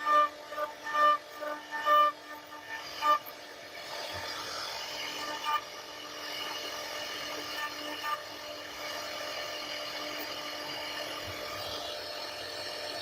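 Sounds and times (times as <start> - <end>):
router spindle whine cutting wood: 0.0 - 13.0.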